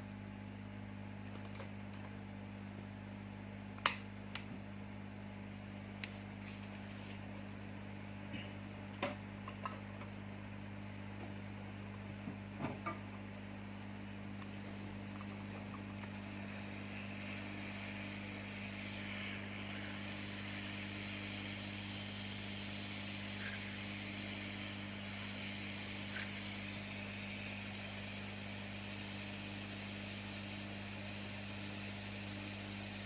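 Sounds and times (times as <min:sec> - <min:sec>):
mains hum: 0:00.0 - 0:33.0
hot air blower hissing: 0:05.6 - 0:33.0.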